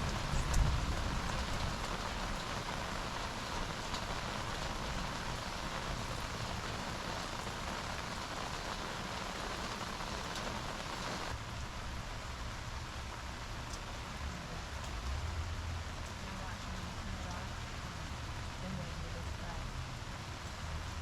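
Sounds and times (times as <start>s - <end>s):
rain on an umbrella: 0.0s - 21.0s.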